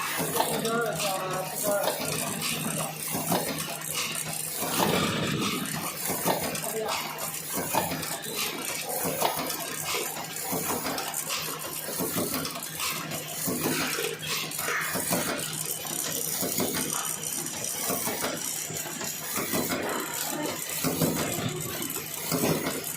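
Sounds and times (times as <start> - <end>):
packaging machine clattering: 0.0 - 22.9.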